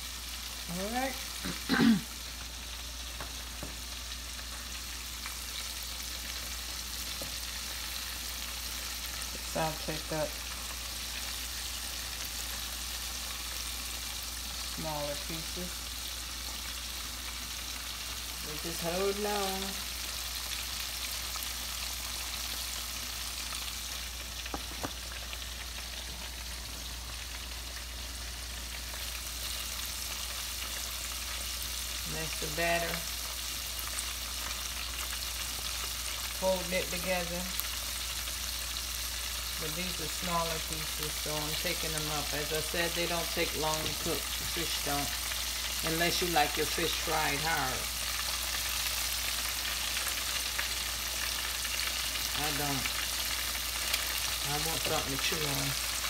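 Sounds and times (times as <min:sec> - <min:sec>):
fish deep-frying in oil: 0:00.0 - 0:56.0.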